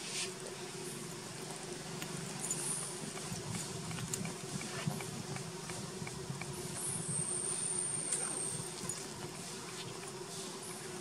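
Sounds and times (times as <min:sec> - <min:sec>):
insects buzzing: 0:00.0 - 0:11.0
steady low hum: 0:00.0 - 0:11.0.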